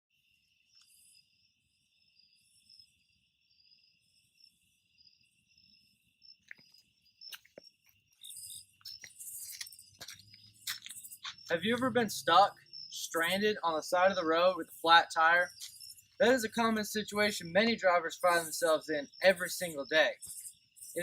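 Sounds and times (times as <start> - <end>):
crickets trilling: 0.1 - 21.0.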